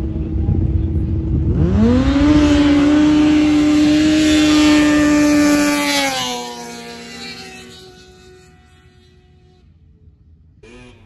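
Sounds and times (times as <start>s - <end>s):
snowmobile engine revving: 0.1s - 9.6s, 10.6s - 11.0s.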